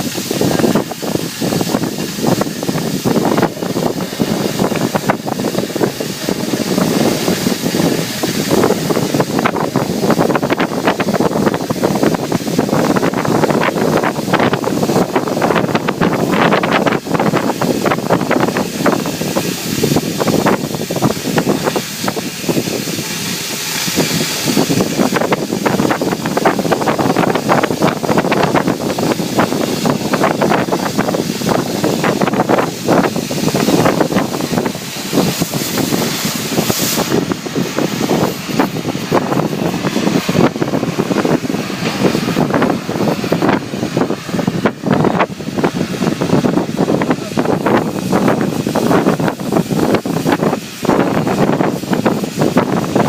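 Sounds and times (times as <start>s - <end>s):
crackling of burning metal: 0.0s - 53.0s
cutting torch hissing: 0.0s - 53.0s.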